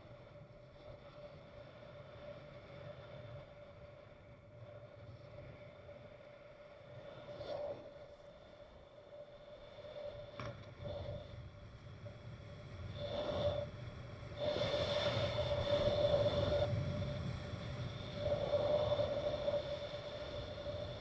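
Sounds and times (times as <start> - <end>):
faint steady whine: 0.0 - 21.0.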